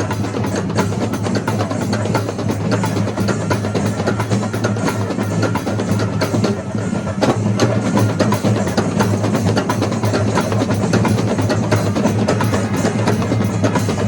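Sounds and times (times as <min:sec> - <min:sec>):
drum ensemble playing fast: 0:00.0 - 0:14.0.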